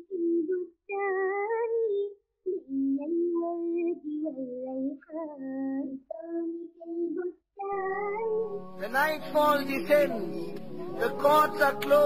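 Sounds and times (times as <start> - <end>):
high voice singing: 0.0 - 12.0.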